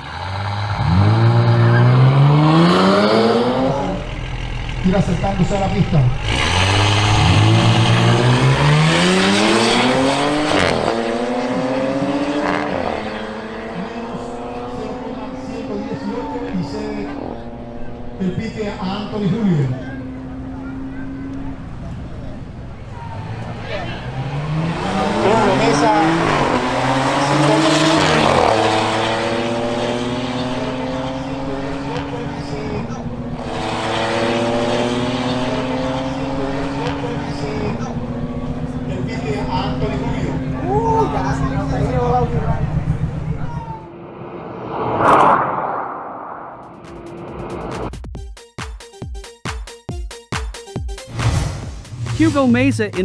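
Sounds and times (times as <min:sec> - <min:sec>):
car engine accelerating hard: 0:00.0 - 0:48.0.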